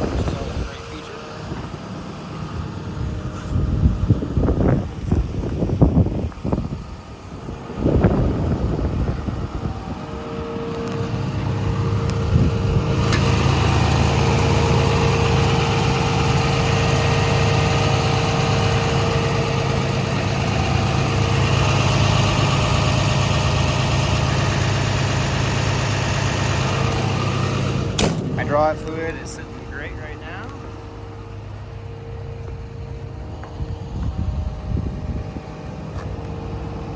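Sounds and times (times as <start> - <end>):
excavator diesel engine idling: 0.0 - 36.9.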